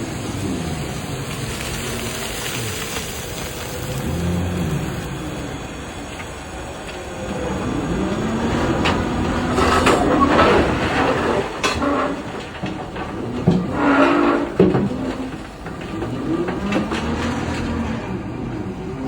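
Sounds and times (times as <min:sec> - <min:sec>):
electric motors whining: 0:00.0 - 0:19.0
heavy rumble: 0:00.0 - 0:19.0.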